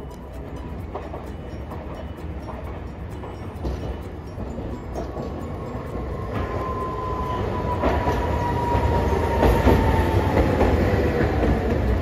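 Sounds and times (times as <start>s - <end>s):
steel wheels rumbling on rails: 0.0s - 12.0s
streetcar whine: 0.0s - 12.0s
wheels knocking on rail joints: 0.0s - 12.0s.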